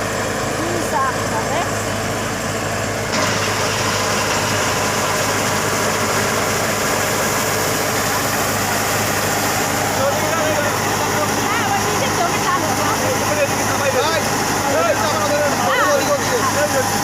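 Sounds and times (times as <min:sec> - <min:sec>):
harvester engine humming: 0:00.0 - 0:17.0.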